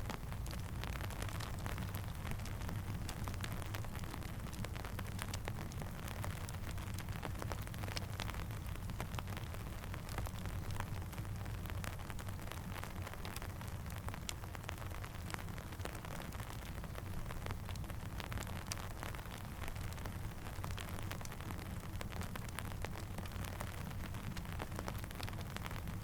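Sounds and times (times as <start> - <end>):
crackling campfire: 0.0 - 26.0
steady rain: 0.0 - 26.0.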